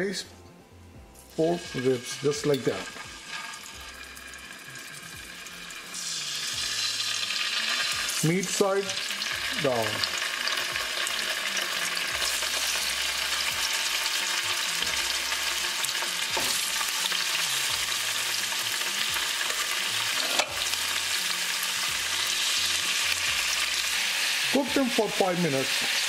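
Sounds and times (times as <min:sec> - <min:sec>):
meat sizzling in a frying pan: 0:01.2 - 0:26.0.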